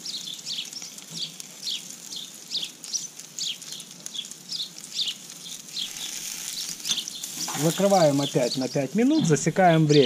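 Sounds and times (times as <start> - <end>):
small bird calling: 0.0 - 9.3.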